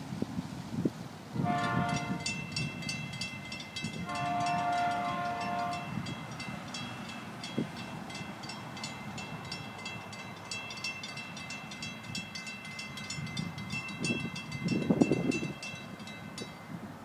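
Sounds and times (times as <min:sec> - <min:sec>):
crossing warning bell ringing: 0:01.4 - 0:17.0.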